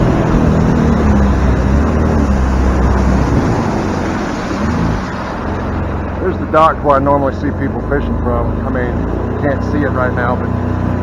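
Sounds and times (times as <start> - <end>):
motorboat engine running: 0.0 - 11.0.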